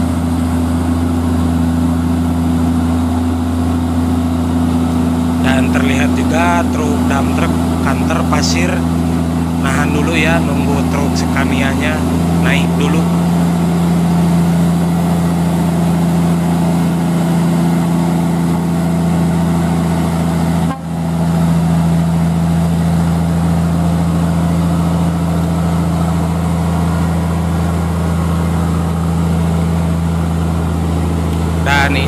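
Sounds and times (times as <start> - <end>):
truck diesel engine pulling: 0.0 - 32.0.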